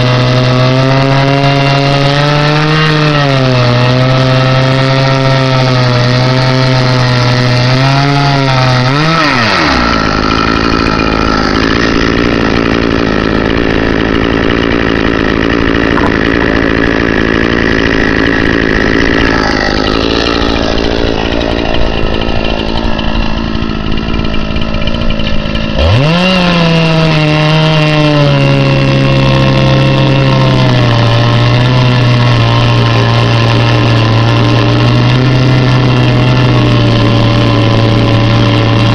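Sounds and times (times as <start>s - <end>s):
chainsaw idling and revving: 0.0s - 38.9s
chainsaw ripping through log: 0.0s - 38.9s.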